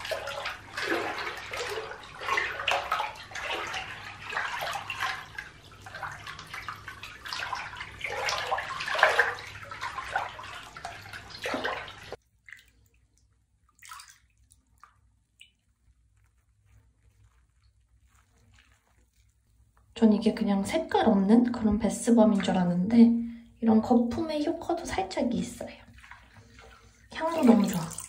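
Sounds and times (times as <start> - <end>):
bath water sloshing and splashing: 0.0 - 28.0.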